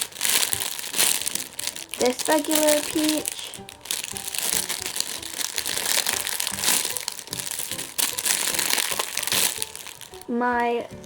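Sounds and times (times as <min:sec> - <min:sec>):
squishy toy crinkling and crackling: 0:00.0 - 0:10.3.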